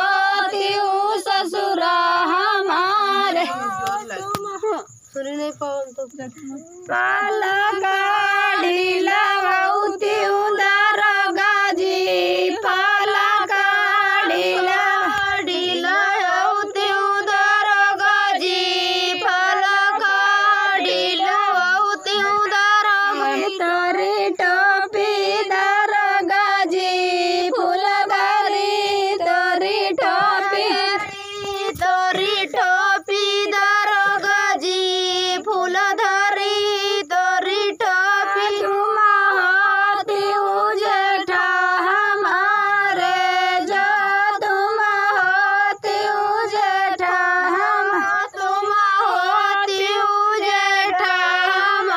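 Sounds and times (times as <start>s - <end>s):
women singing folk song: 0.0s - 51.9s.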